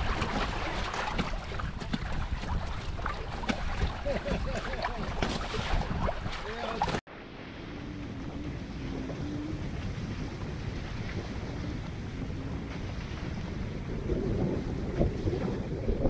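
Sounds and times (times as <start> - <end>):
water rushing around hulls: 0.0 - 16.0
wind buffeting microphone: 0.0 - 16.0.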